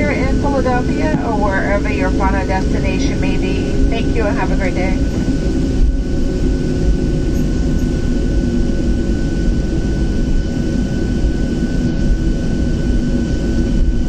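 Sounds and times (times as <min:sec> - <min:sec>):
jet engines idling in cabin: 0:00.0 - 0:14.0
thin steady whine: 0:00.0 - 0:14.0.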